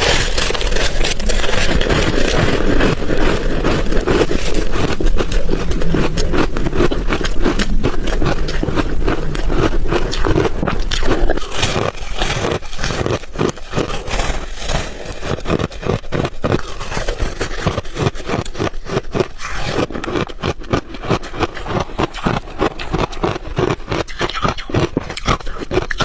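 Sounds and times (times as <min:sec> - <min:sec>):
chewing crunchy ice: 0:00.0 - 0:26.0.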